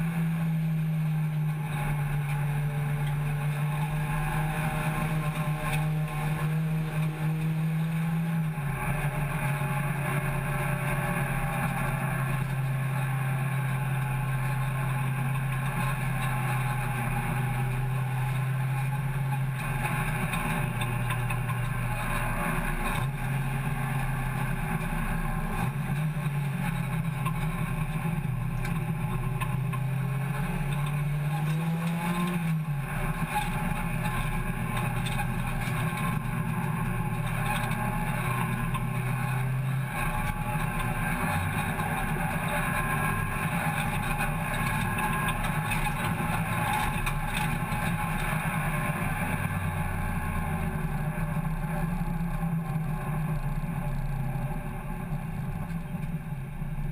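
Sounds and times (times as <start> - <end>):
race car engine from inside: 0.0 - 56.9
road and wind noise: 0.0 - 56.9.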